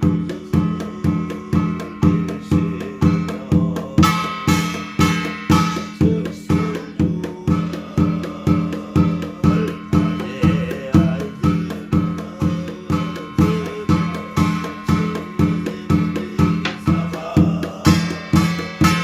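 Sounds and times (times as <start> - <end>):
drum beaten steadily: 0.0 - 19.0.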